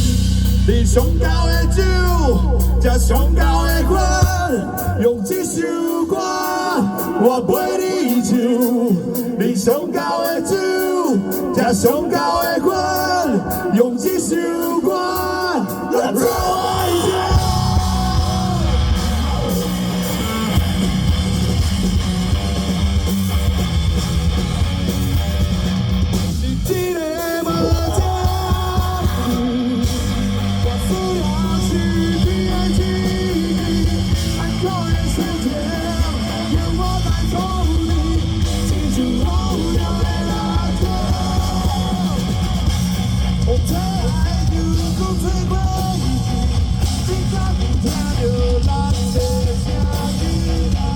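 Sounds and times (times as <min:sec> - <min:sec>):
bass guitar: 0:00.0 - 0:09.7, 0:15.4 - 0:50.9
drums: 0:00.0 - 0:50.9
electric guitar: 0:00.0 - 0:50.9
rock band playing live: 0:00.0 - 0:50.9.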